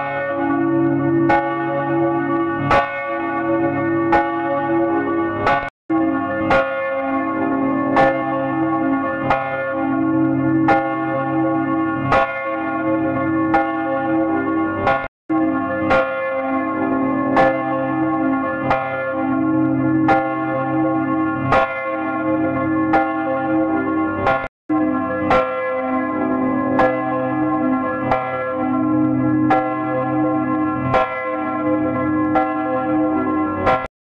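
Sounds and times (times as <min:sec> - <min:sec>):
church bell tolling: 0:00.0 - 0:33.9.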